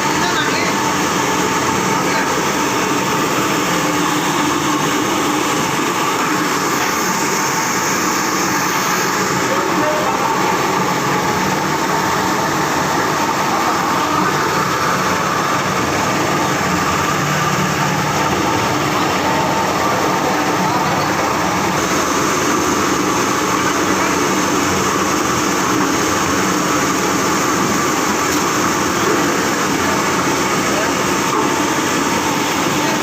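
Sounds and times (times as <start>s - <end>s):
washing machine running: 0.0s - 33.0s.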